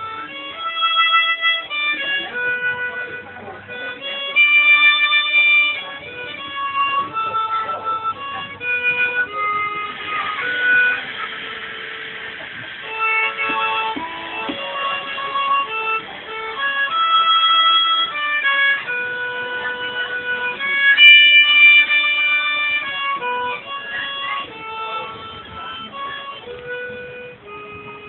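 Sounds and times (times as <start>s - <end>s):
fiddle: 0.0s - 28.0s
harmonica: 0.0s - 28.0s.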